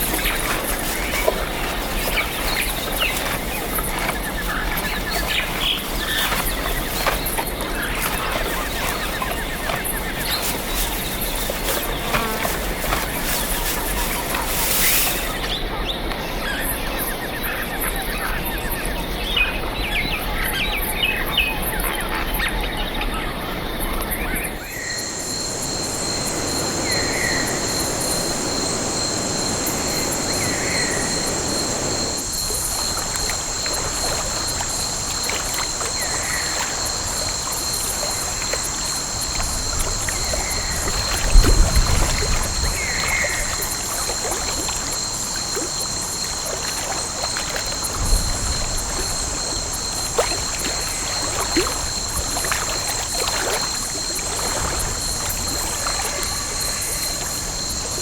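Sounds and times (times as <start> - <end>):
high insect drone: 0.0 - 15.7, 24.4 - 58.0
birds chirping: 0.0 - 58.0.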